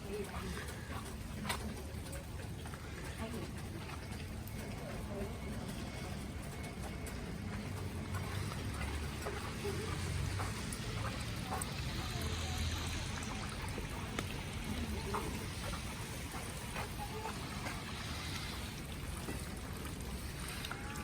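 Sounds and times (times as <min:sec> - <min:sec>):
small drips and clicks: 0:00.0 - 0:21.0
water trickling on street: 0:00.0 - 0:21.0.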